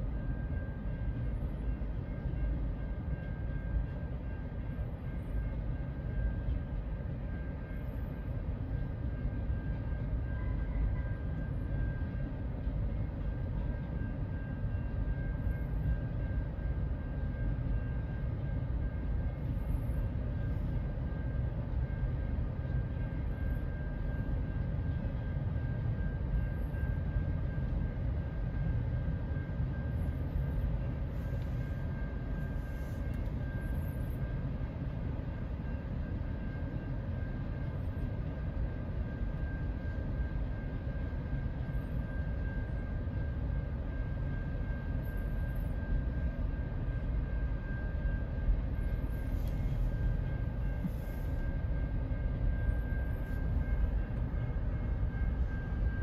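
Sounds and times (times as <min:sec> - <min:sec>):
freight train rumbling on rails: 0:00.0 - 0:56.0
thin steady high tone: 0:00.0 - 0:56.0.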